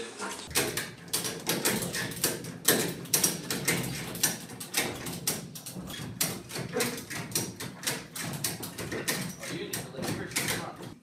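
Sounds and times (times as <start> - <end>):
ratchet strap clicking: 0.5 - 11.0.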